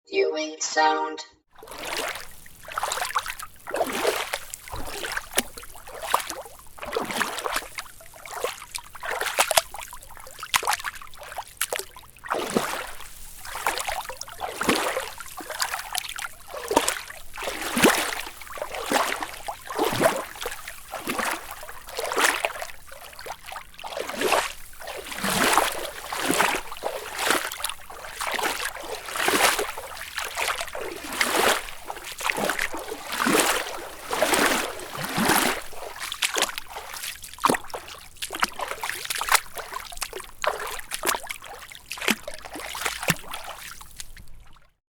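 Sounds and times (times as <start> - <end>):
footsteps wading through water: 1.6 - 44.8.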